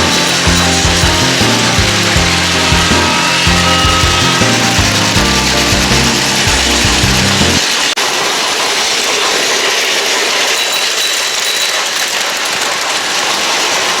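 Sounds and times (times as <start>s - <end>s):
toy train motor whirring: 0.0s - 14.0s
wheels rattling on plastic track: 0.0s - 14.0s.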